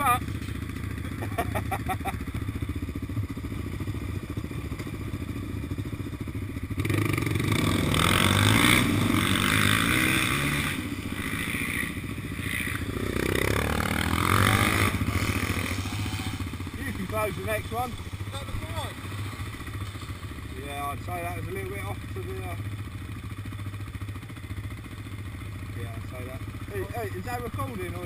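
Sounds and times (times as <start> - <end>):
quad bike engine revving: 0.0 - 28.0.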